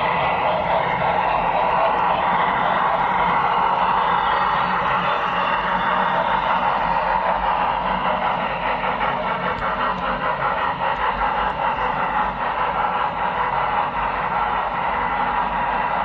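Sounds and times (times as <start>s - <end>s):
model train motor and wheels running: 0.0s - 16.0s.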